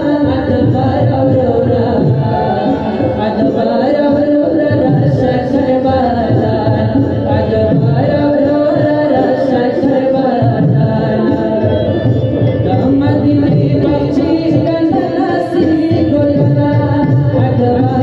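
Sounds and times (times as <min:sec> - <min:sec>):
lament sung with instruments: 0:00.0 - 0:18.0.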